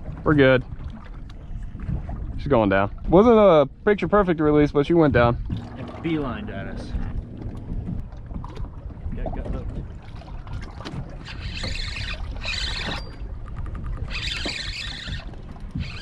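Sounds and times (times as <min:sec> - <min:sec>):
water splashing against hull: 0:00.0 - 0:16.0
wind rumbling on microphone: 0:00.0 - 0:16.0.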